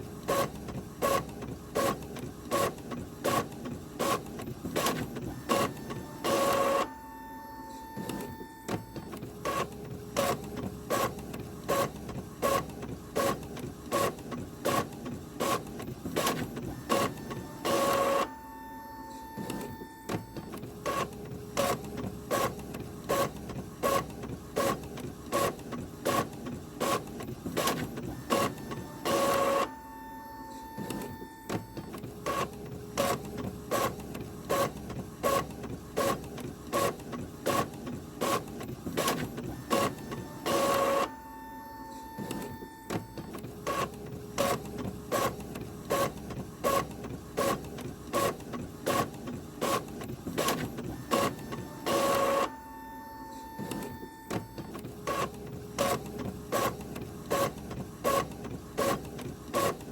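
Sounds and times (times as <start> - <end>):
printer hum: 0.0 - 59.9
printer printing: 0.0 - 59.9.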